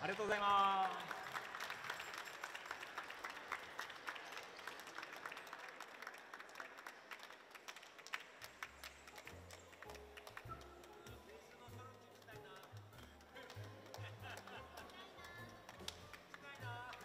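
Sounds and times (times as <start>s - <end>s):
audience applause: 0.0s - 11.6s, 12.2s - 17.0s.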